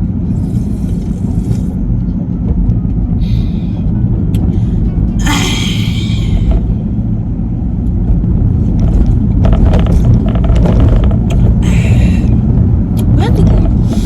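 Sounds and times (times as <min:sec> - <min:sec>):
car driving rumble inside cabin: 0:00.0 - 0:14.0.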